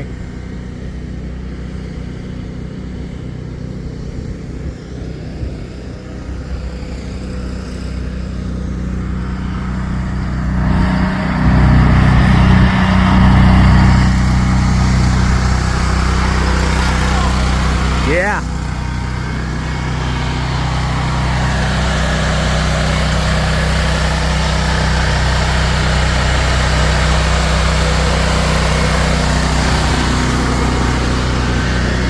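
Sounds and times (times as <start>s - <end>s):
snowplow engine running: 0.0s - 32.0s.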